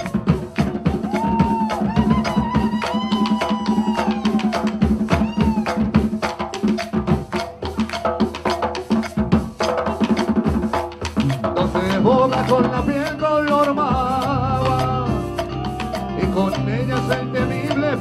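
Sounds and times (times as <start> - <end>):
drum beaten with sticks: 0.0 - 18.0
hand drum: 0.0 - 18.0.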